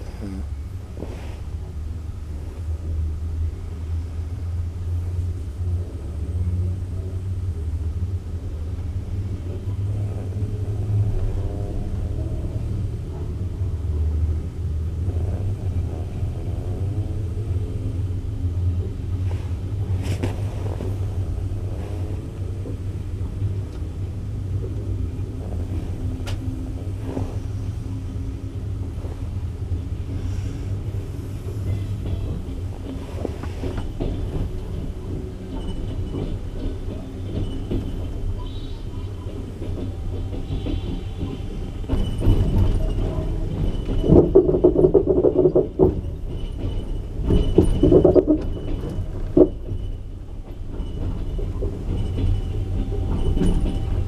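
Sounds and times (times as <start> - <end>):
train carriage rolling: 0.0 - 54.0.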